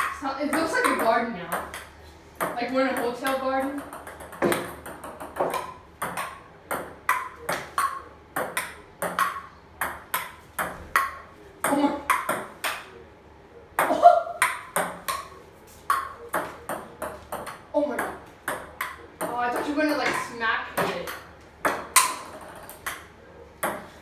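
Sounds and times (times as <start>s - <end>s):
ping-pong ball pinging: 0.0s - 12.9s, 13.8s - 23.9s
ball bouncing on wooden table: 0.5s - 12.8s, 13.8s - 15.3s, 15.9s - 23.9s.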